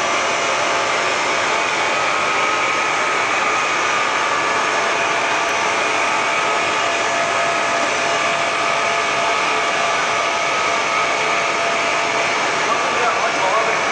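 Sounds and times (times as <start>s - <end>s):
machine whirring hum: 0.0s - 13.9s
whining tones: 0.0s - 13.9s.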